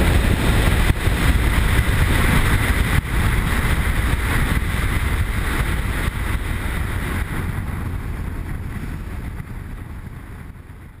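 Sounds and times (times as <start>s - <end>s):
motorcycle engine rumble: 0.0s - 11.0s
wind rushing over microphone: 0.0s - 11.0s.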